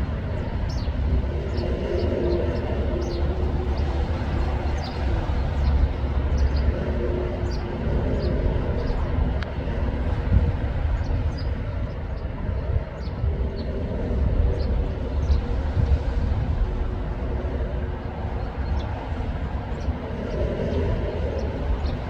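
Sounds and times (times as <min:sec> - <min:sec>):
low rumbling noise: 0:00.0 - 0:22.0.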